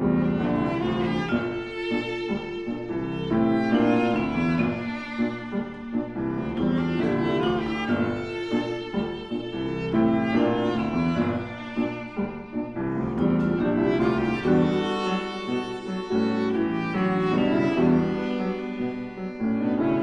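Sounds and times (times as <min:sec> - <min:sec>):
piano accompaniment: 0:00.0 - 0:20.0
viola melody: 0:00.0 - 0:20.0.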